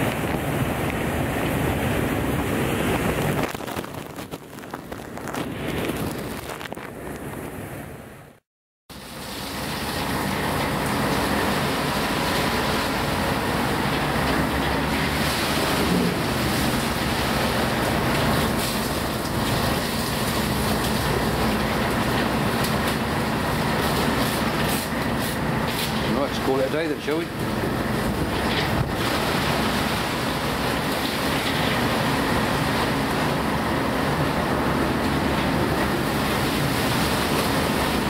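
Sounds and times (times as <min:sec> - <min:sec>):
wind blasting microphone: 0:00.0 - 0:08.4, 0:11.3 - 0:38.0
rain and sea spray: 0:00.0 - 0:38.0.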